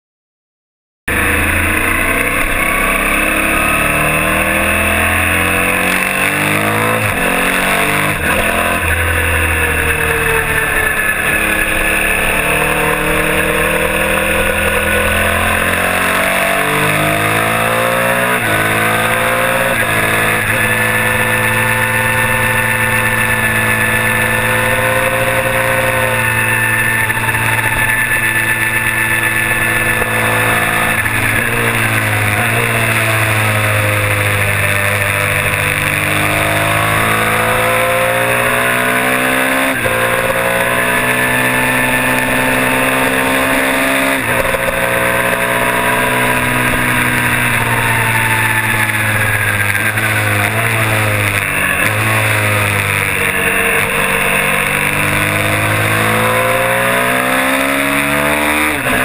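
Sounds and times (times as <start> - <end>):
race bike engine revving: 1.1 - 59.0.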